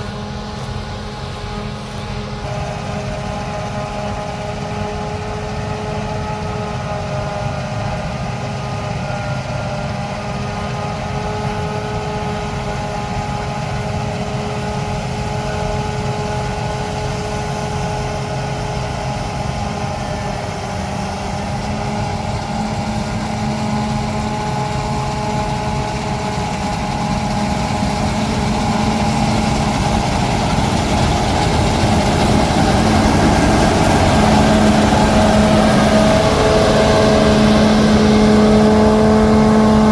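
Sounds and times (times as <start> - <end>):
harvesting machine diesel engine: 0.0 - 39.9.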